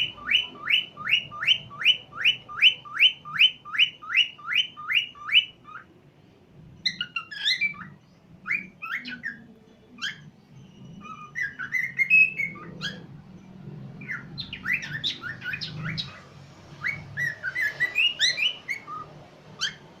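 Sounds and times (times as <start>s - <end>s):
cockatiel whistling and chirping: 0.0s - 5.9s, 6.8s - 13.1s, 14.0s - 20.0s.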